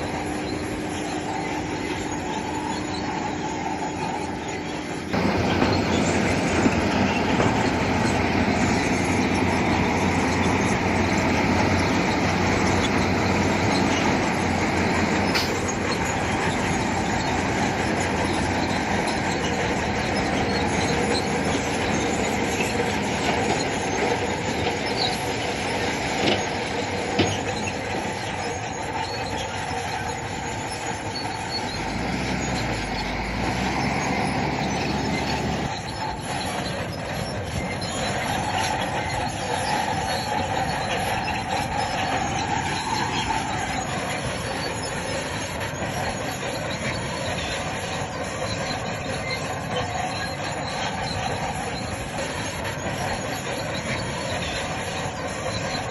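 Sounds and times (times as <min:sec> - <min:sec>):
bulldozer engine running: 0:00.0 - 0:55.9
steel tracks squealing and clanking: 0:00.0 - 0:55.9.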